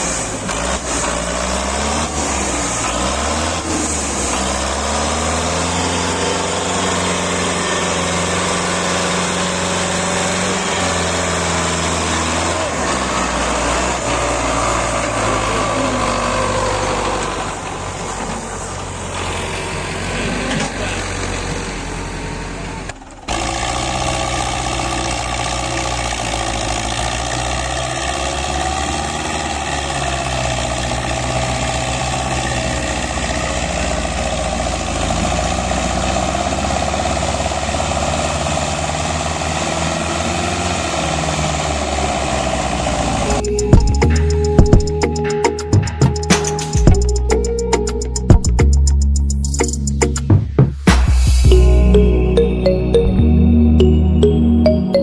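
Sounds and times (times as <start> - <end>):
engine running: 0.0 - 45.1.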